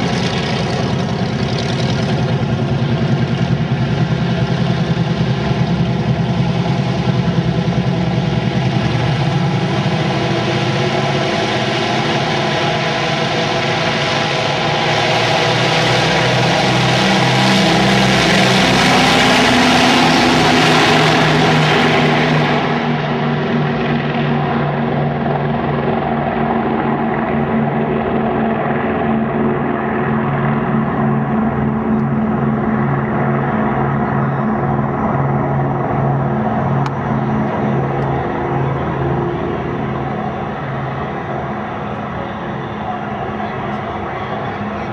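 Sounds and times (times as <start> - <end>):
piston aircraft engines roaring: 0.0 - 44.9.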